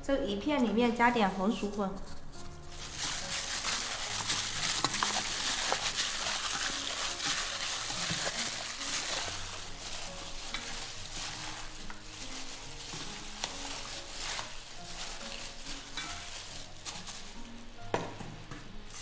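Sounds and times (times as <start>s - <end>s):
wet rustling of mixing: 2.6s - 19.0s.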